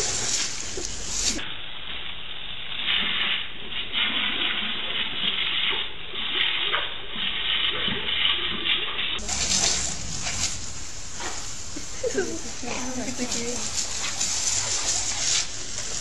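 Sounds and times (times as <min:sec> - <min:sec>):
water jet spraying: 0:00.0 - 0:16.0.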